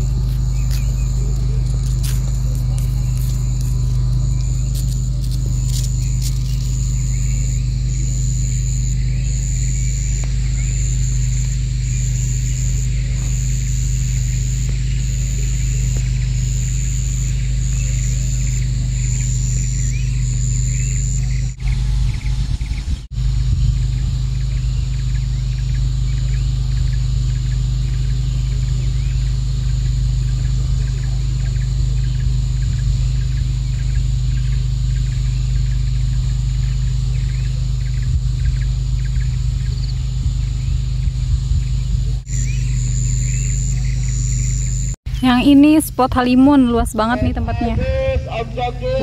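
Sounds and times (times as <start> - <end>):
faint repeating chirp: 0.0 - 22.4, 24.4 - 46.6
vehicle rumble: 0.0 - 49.0.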